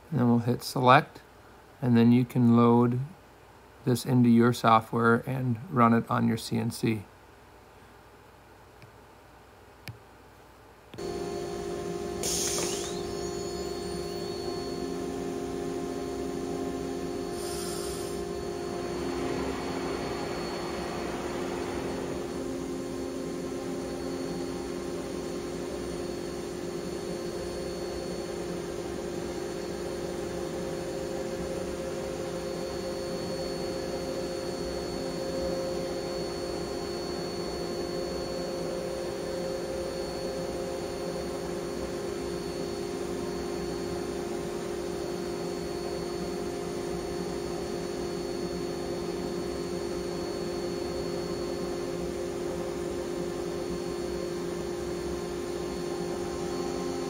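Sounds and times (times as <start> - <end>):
cnc router cutting: 11.0 - 57.0.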